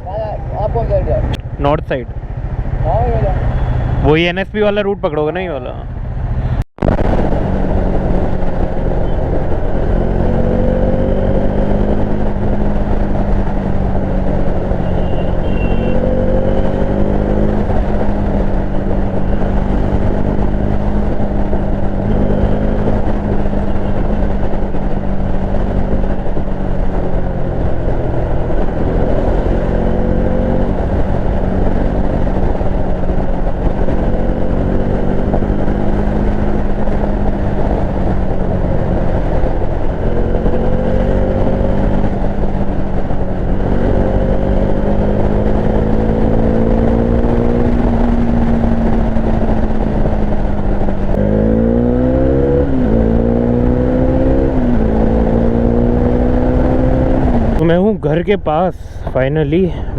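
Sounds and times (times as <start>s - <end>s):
motorcycle engine revving: 0.0s - 57.8s
wind and road noise: 0.0s - 59.9s.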